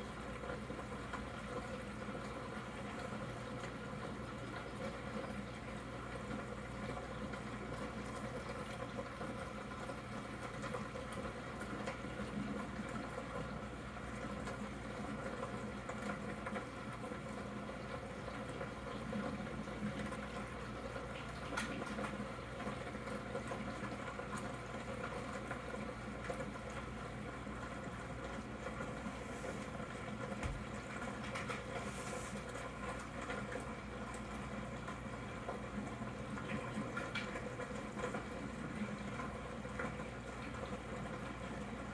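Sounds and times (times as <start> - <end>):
aquarium air bubbles: 0.0 - 41.9.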